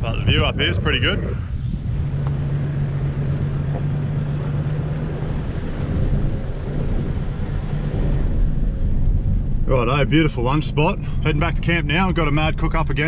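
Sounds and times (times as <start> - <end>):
low engine hum: 0.0 - 13.0
vehicle engine and road noise: 0.0 - 13.0.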